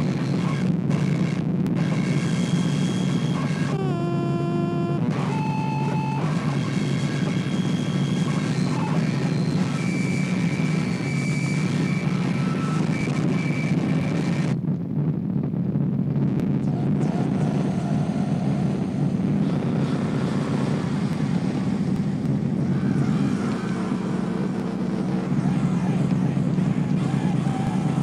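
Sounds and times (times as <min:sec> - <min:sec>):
distorted electronic noise: 0:00.0 - 0:28.0.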